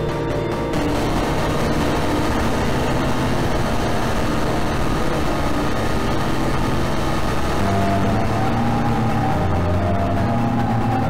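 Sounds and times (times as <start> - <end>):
distorted electronic drone music: 0.0 - 11.0.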